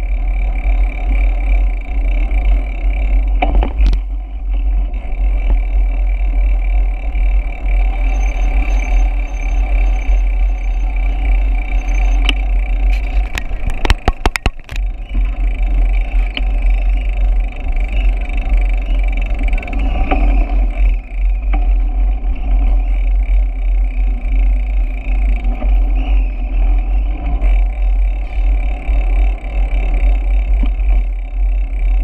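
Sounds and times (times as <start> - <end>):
road and tyre noise: 0.0 - 32.0.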